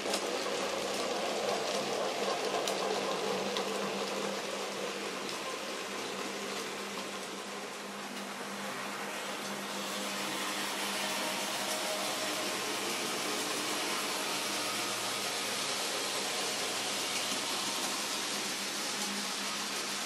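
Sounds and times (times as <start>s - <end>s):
model trains whirring on track: 0.0s - 20.0s.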